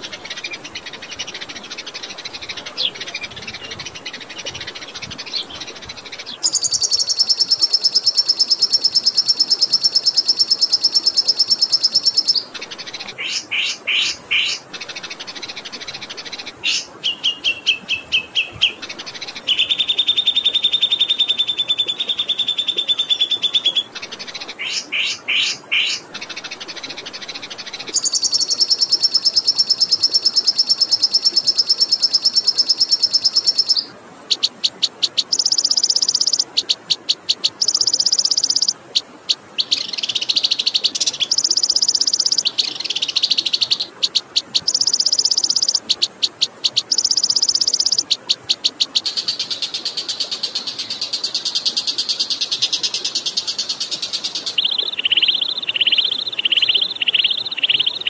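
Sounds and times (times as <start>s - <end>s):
flowing water: 0.0s - 58.0s
songbirds trilling: 0.0s - 58.0s.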